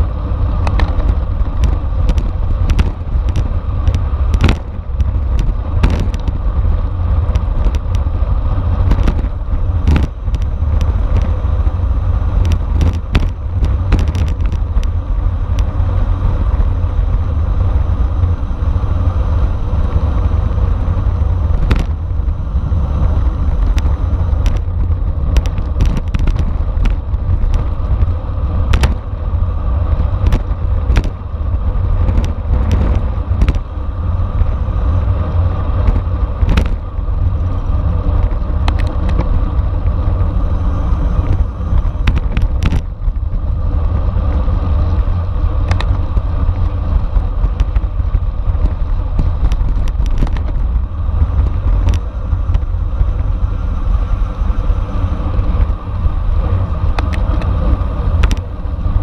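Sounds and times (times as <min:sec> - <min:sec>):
sharp clicks and rattles: 0:00.0 - 0:18.8, 0:19.8 - 0:54.0, 0:55.2 - 0:59.0
bicycle road noise rumble: 0:00.0 - 0:59.0
wind buffeting microphone: 0:00.0 - 0:59.0.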